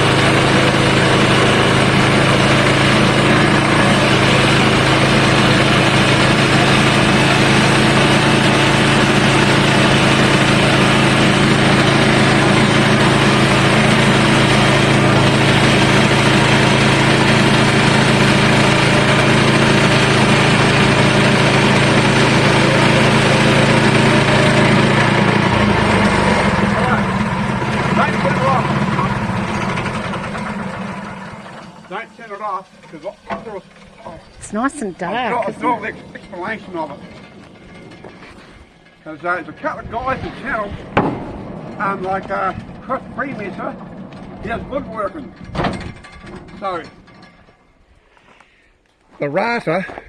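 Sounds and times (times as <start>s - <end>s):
sawmill engine running: 0.0s - 48.0s.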